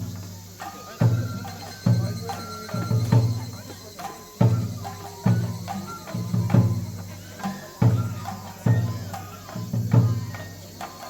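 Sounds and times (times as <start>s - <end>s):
taiko drum beats: 0.0s - 11.0s.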